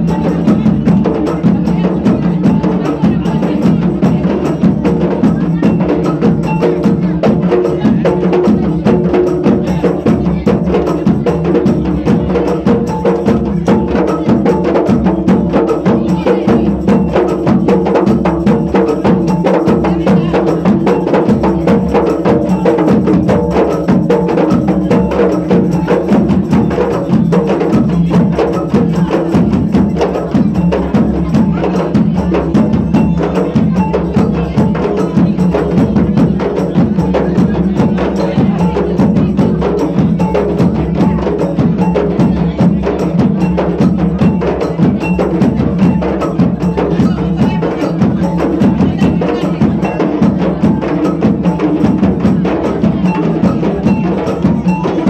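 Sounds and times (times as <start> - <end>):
fast percussion music: 0.0 - 55.0.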